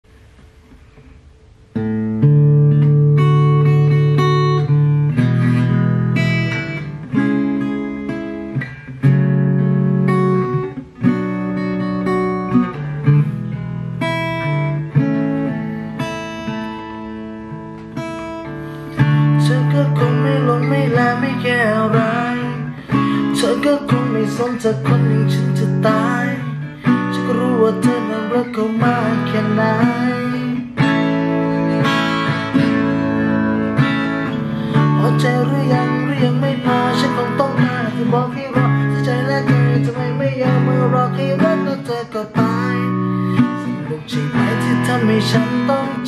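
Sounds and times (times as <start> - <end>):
acoustic guitar strumming chords: 0.1 - 46.0.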